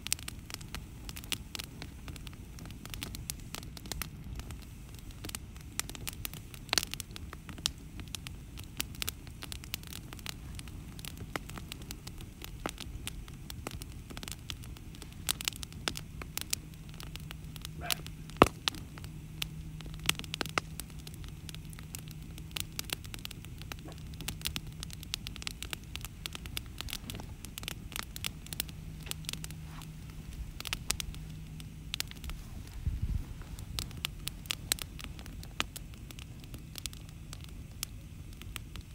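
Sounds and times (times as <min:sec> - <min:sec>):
campfire crackling and popping: 0:00.0 - 0:38.9
faint low hum: 0:00.0 - 0:38.9.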